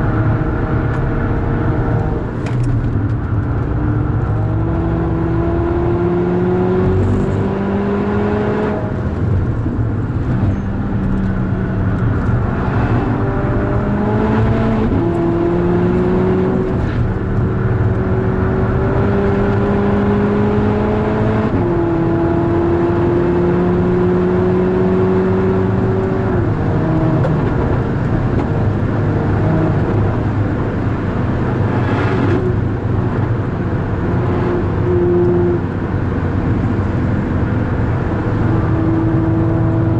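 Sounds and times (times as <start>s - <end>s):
car engine accelerating hard: 0.0s - 39.9s
road and wind noise: 0.0s - 39.9s.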